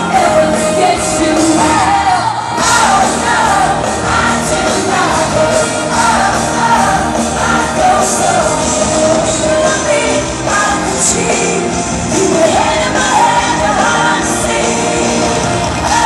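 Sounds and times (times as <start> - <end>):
live rock band: 0.0 - 16.0
woman singing lead: 0.0 - 16.0.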